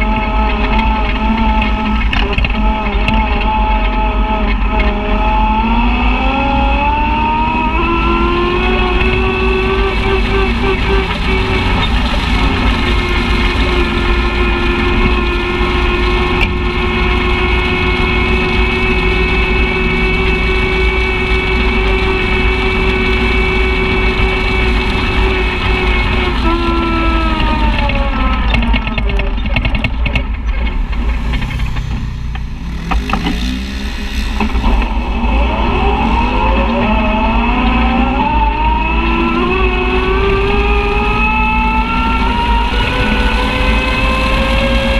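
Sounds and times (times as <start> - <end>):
utility vehicle engine running: 0.0 - 44.9.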